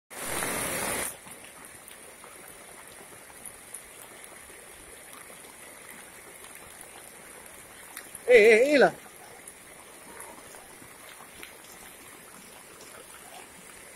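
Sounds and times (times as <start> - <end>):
heavy rain on standing water: 0.1 - 13.9.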